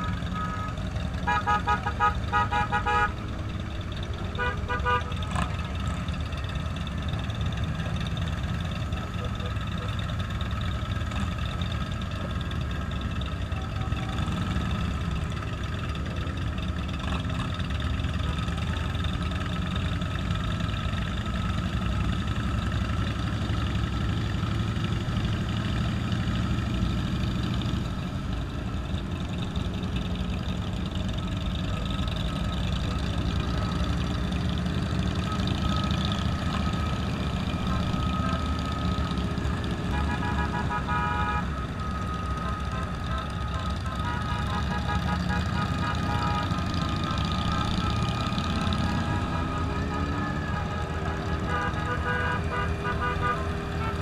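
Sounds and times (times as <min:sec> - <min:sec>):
motorcycle engines rumbling: 0:00.0 - 0:54.0.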